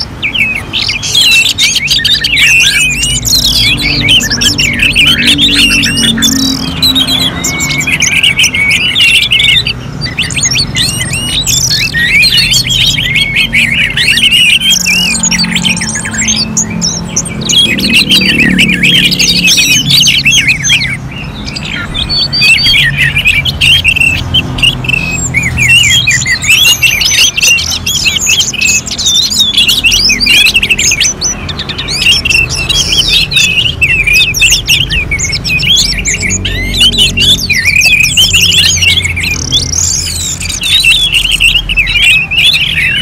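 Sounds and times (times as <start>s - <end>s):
thrush singing high chirps: 0.0s - 43.0s.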